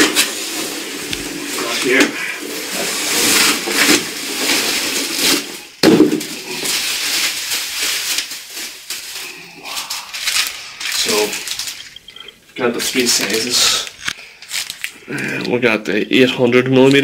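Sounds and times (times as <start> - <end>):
plastic packaging crinkling: 0.0 - 15.6.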